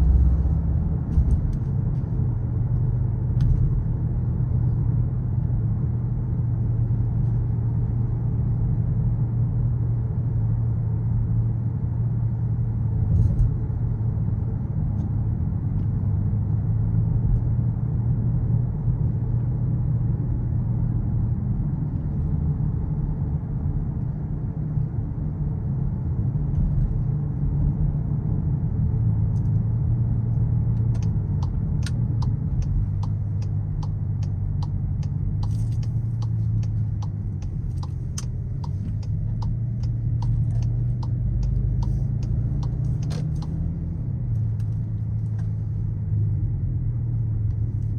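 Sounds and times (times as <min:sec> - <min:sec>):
car engine droning at cruise: 0:00.0 - 0:47.9
road rumble: 0:00.0 - 0:47.9.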